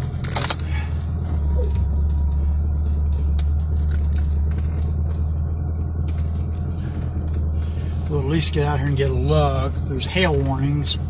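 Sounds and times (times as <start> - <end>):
sharp clicks and rattles: 0.0 - 11.0
vehicle engine droning: 0.0 - 11.0.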